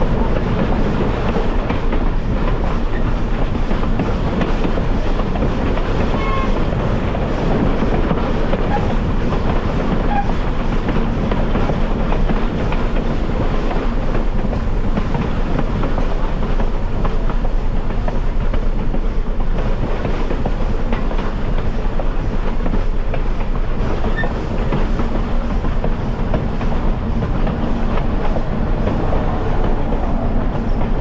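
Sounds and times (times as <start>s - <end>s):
train car rumbling on track: 0.0s - 31.0s
wheels clattering over rails: 0.0s - 31.0s.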